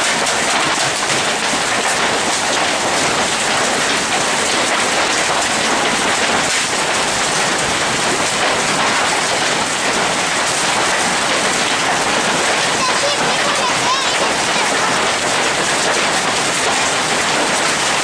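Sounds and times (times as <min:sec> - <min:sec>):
hail hammering: 0:00.0 - 0:18.0.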